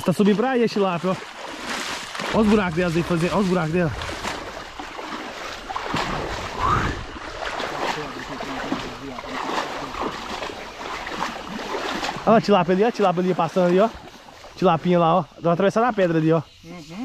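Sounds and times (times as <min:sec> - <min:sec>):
stream water rushing: 0:00.0 - 0:16.3
water splashing: 0:00.0 - 0:16.9.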